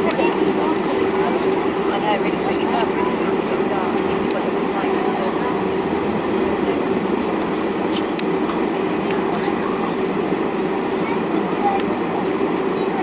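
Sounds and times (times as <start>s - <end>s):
jet cabin hum and rumble: 0.0s - 13.0s.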